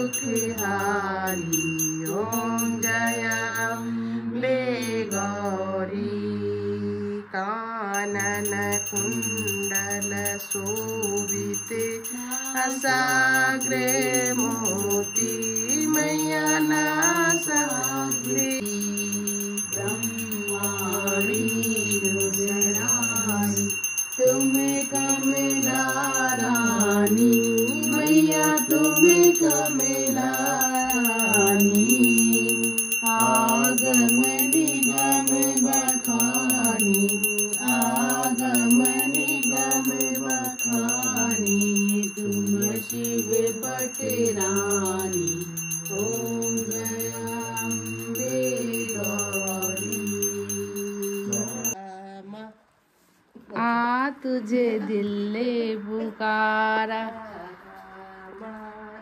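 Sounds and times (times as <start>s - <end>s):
small hand bell ringing: 0.0s - 3.9s, 4.8s - 5.6s, 8.0s - 51.8s
devotional singing with music: 0.0s - 52.6s, 53.3s - 59.0s.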